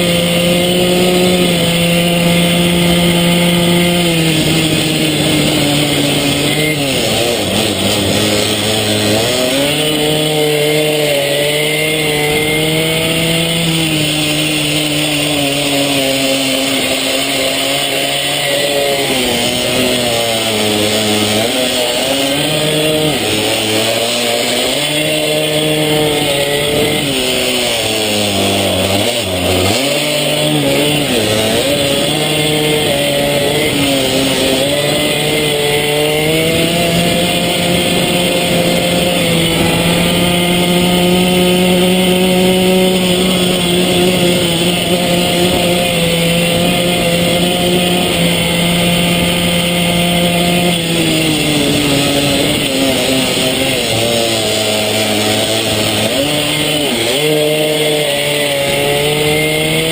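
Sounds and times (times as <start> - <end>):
small motorbike engine revving: 0.0 - 59.9.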